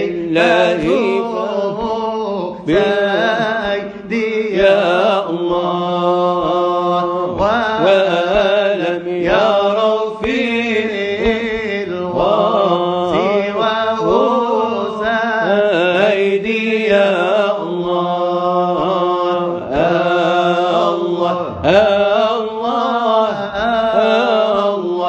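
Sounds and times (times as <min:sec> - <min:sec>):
lead voice singing melismas: 0:00.0 - 0:25.0
male voices chanting: 0:00.0 - 0:25.0.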